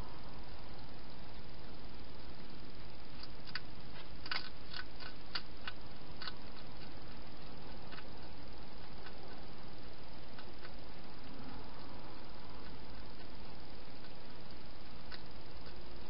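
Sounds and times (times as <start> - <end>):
steady hiss: 0.0 - 16.0
hedgehog eating crunches: 3.1 - 16.0.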